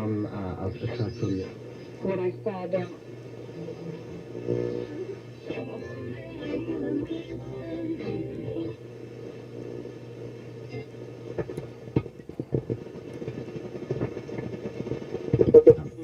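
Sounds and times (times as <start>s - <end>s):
radio hum and hiss: 0.0s - 16.0s
static crackles: 0.0s - 16.0s.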